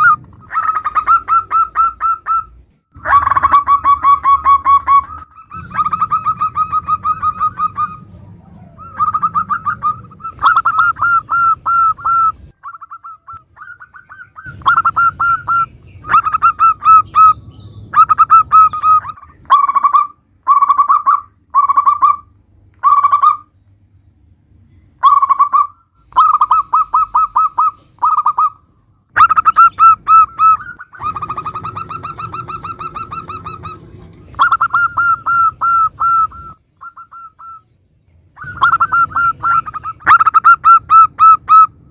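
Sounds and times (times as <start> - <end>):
doves cooing: 0.0 - 23.5, 25.0 - 37.7, 38.4 - 41.9
low background hum: 0.0 - 41.9.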